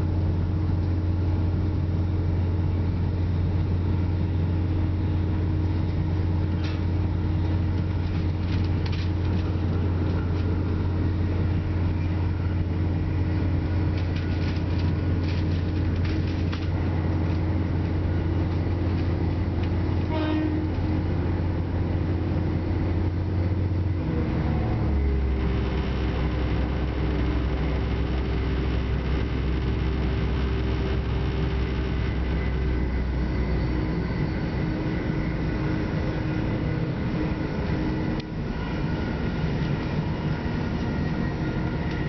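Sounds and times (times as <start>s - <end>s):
steady whine: 0.0s - 42.0s
train engine drone: 0.0s - 42.0s
wheels rumbling on rails: 0.0s - 42.0s.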